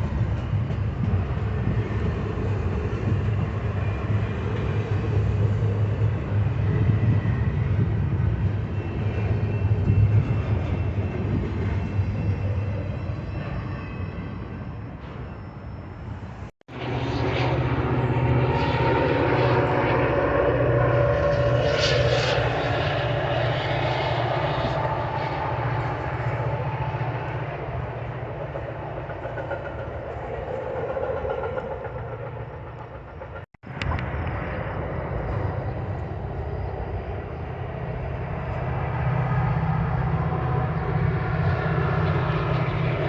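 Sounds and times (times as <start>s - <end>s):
train wheels rolling on rails: 0.0s - 16.5s, 17.5s - 43.0s
diesel locomotive engine hum: 0.0s - 43.0s.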